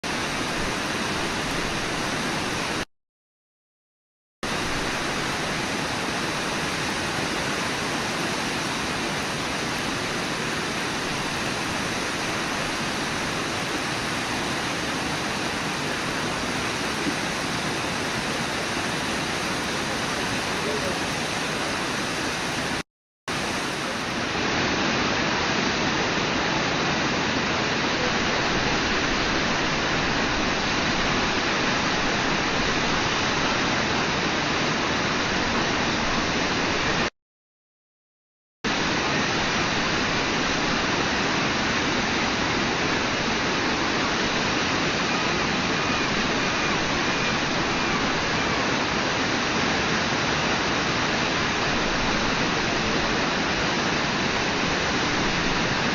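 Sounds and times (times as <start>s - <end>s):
whitewater rushing: 0.0s - 2.8s, 4.4s - 37.1s, 38.7s - 55.9s.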